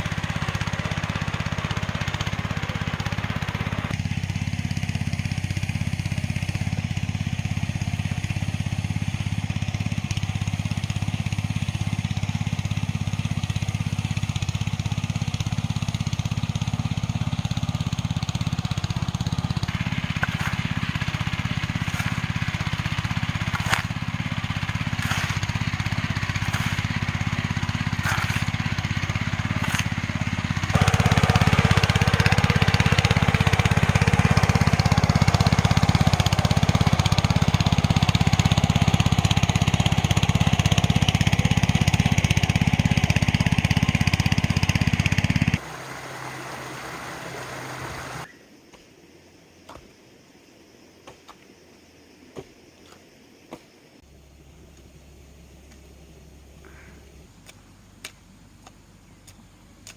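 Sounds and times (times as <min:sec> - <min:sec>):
small engine running: 0:00.0 - 0:48.3, 0:54.0 - 0:57.8.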